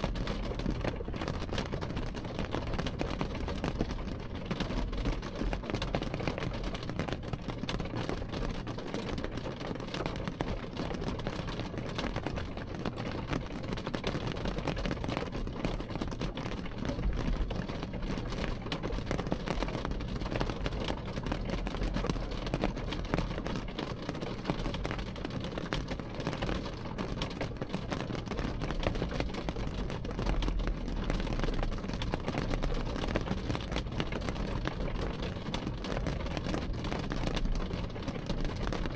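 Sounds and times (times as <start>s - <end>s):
rain on window glass: 0.0s - 38.9s.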